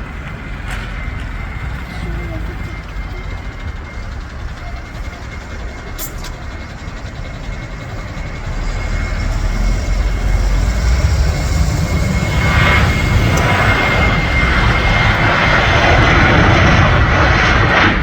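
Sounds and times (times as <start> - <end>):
jet engines whining and rumbling: 0.0 - 18.0.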